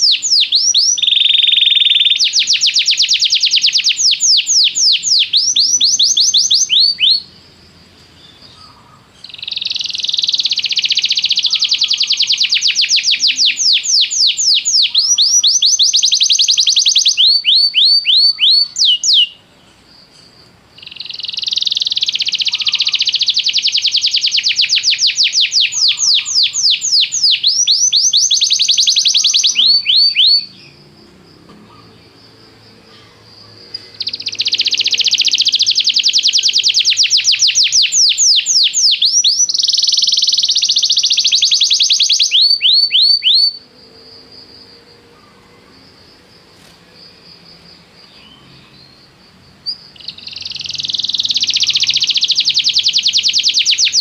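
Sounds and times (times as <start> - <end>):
canary singing trills: 0.0 - 46.0, 47.4 - 54.0.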